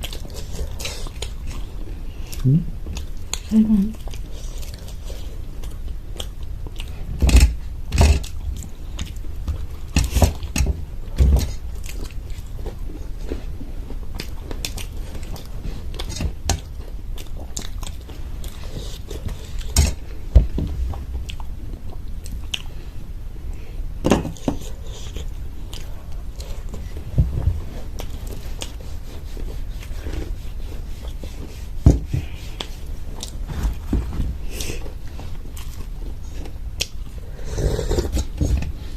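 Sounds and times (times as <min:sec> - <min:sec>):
chewing: 0:00.0 - 0:10.6, 0:11.4 - 0:20.2, 0:20.8 - 0:23.7, 0:24.4 - 0:31.5, 0:32.2 - 0:38.9.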